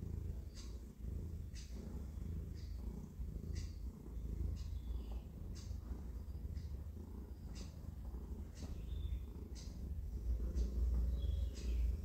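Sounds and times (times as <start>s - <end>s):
bird chirping: 0.0s - 12.0s
cat purring: 0.0s - 12.0s.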